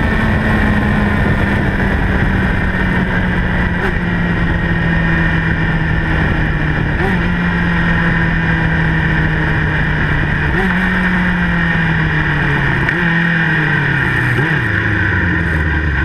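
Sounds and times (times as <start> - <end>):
wind rush: 0.0 - 14.6.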